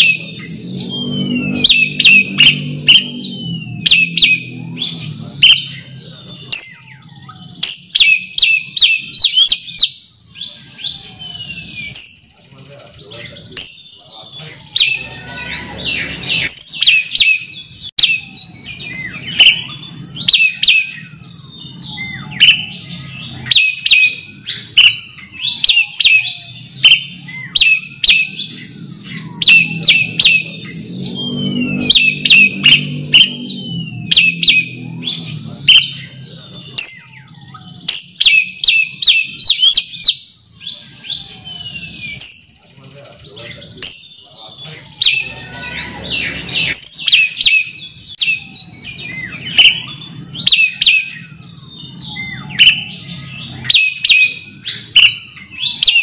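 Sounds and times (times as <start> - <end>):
bird singing chips and whistles: 0.0 - 12.4, 13.4 - 42.6, 43.4 - 56.0.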